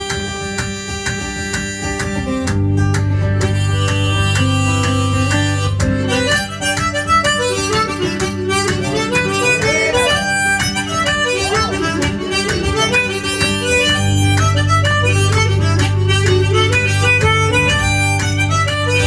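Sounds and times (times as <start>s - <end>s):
guitar: 0.0s - 19.0s
harmonica melody: 0.0s - 19.0s
steady percussive beat: 0.0s - 19.0s.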